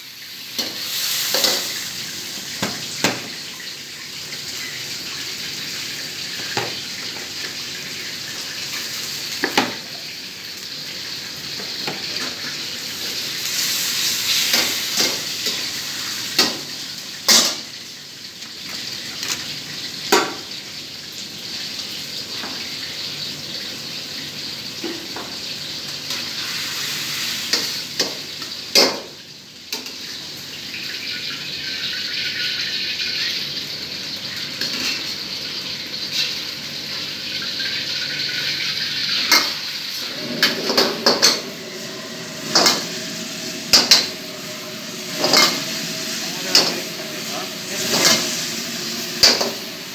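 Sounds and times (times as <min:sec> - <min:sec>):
food sizzling in oil: 0:00.0 - 0:49.9.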